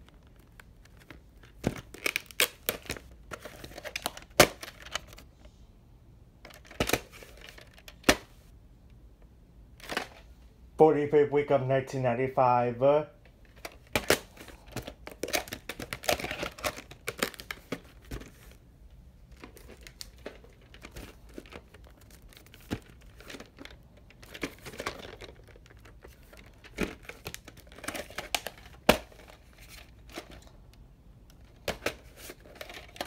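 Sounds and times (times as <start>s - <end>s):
plastic cases rustling and scraping: 0.0s - 5.4s, 6.4s - 8.4s, 9.8s - 10.4s, 13.3s - 30.6s, 31.3s - 33.0s.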